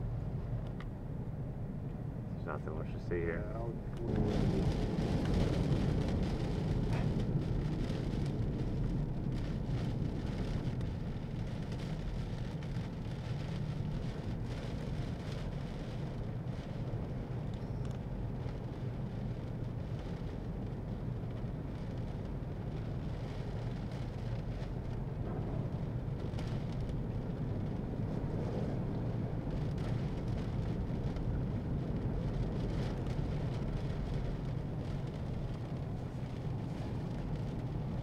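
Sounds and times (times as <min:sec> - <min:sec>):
car engine: 0:00.0 - 0:38.0
rain on car: 0:00.0 - 0:38.0
tyres on wet road: 0:00.0 - 0:38.0.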